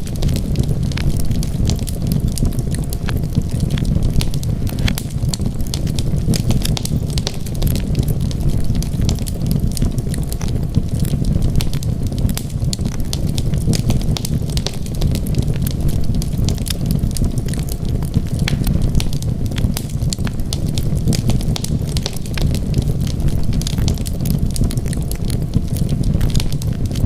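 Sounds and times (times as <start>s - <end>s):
low rumble of fire flames: 0.0s - 27.0s
wood crackling and popping: 0.0s - 27.0s.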